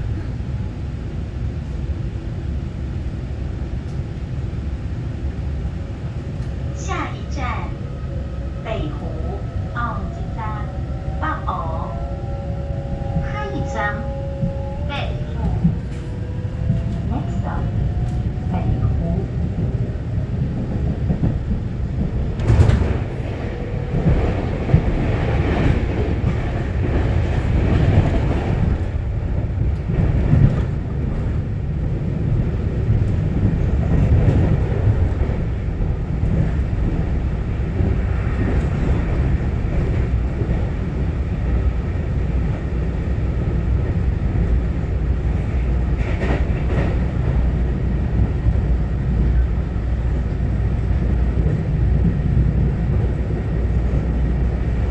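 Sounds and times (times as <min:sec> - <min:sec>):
train interior rumble: 0:00.0 - 0:54.9.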